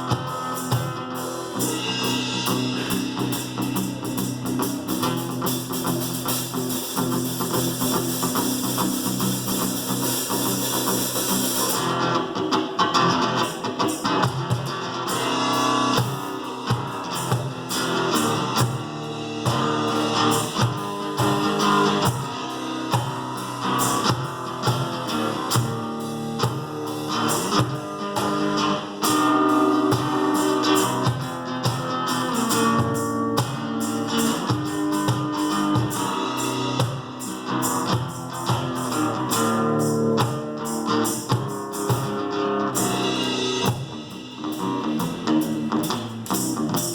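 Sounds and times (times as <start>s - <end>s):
guitar strumming and picking: 0.0s - 46.9s.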